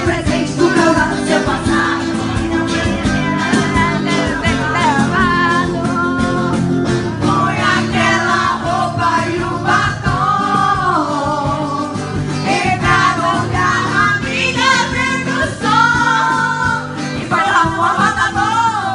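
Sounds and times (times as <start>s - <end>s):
person singing with band: 0.0s - 18.9s.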